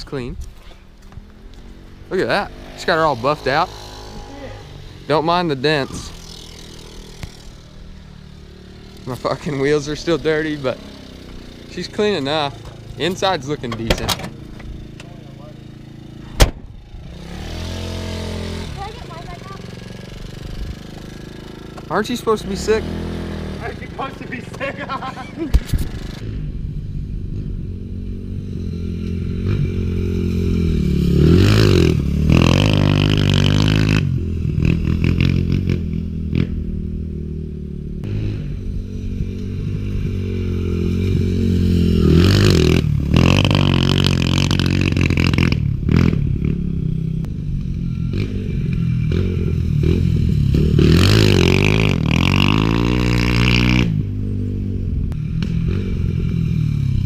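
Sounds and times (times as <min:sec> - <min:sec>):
pit bike engine revving: 0:01.3 - 0:57.0.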